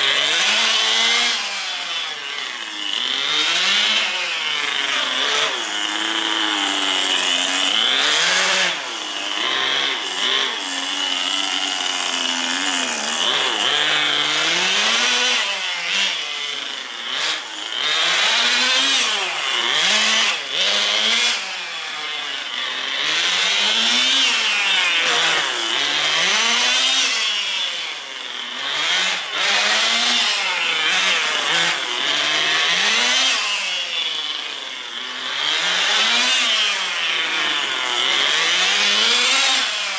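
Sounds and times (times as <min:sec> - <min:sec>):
rc car nitro engine buzzing: 0:00.0 - 0:39.9.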